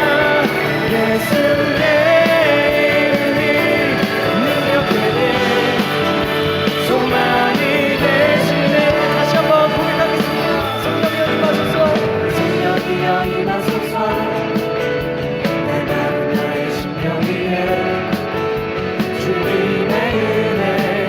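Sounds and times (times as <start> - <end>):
person singing: 0.0 - 21.0
worship band with guitar: 0.0 - 21.0.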